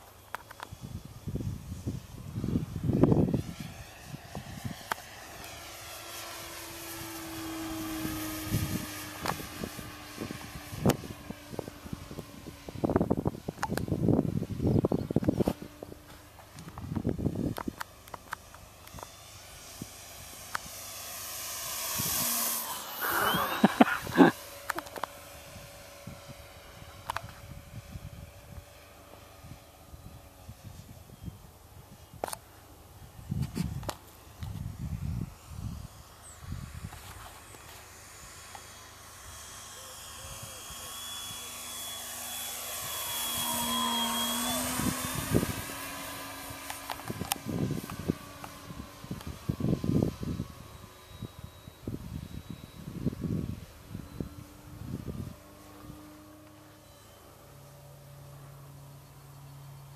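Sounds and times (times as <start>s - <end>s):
electric motor whine: 0.0s - 59.9s
model plane propeller hiss: 0.0s - 59.9s.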